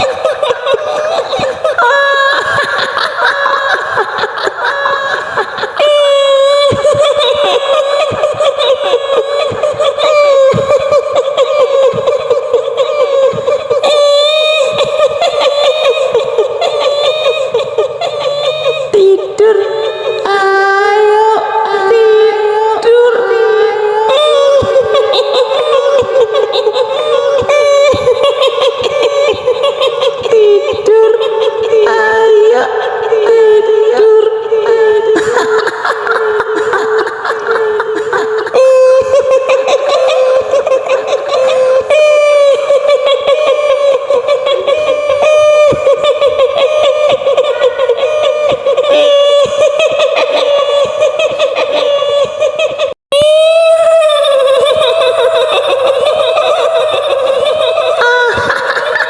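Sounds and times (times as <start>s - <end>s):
woman cackling laugh: 0.0s - 59.0s
woman giggling: 0.0s - 59.0s
woman wailing a slow tune: 0.0s - 59.0s.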